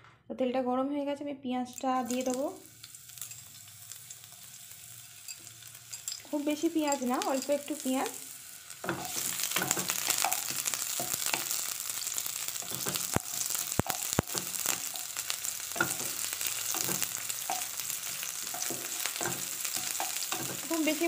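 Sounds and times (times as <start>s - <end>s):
onion sizzling in oil: 1.7s - 21.0s.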